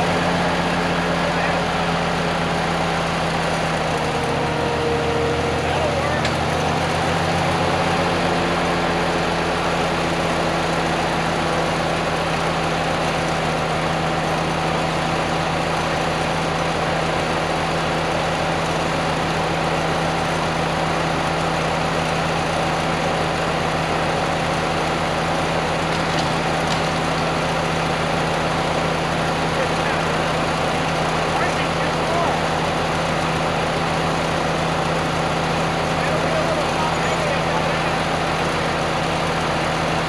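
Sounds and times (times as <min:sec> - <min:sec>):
engine idling: 0:00.0 - 0:40.0.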